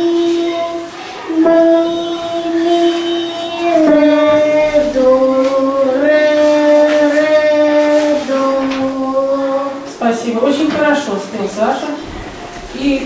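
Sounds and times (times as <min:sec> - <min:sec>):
child singing unaccompanied: 0:00.0 - 0:11.0.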